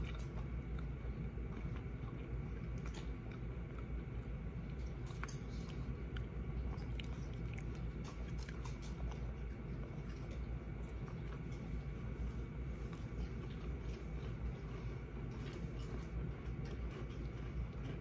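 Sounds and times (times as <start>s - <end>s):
person chewing a snack: 0.0s - 18.0s.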